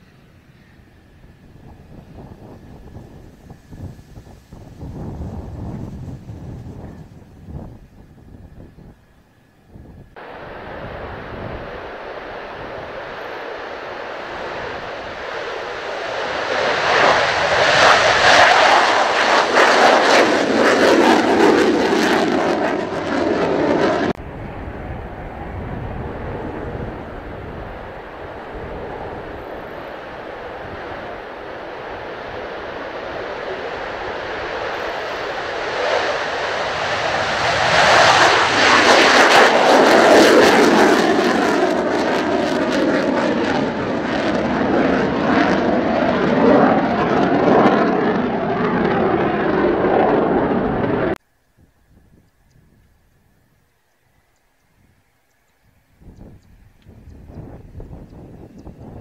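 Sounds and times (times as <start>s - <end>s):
fighter jet taking off: 0.0s - 9.1s, 9.7s - 51.2s.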